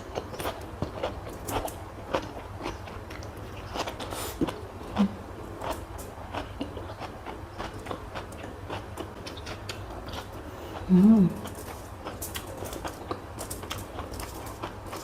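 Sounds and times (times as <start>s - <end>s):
low background hum: 0.0s - 15.0s
person chewing food: 0.0s - 15.0s.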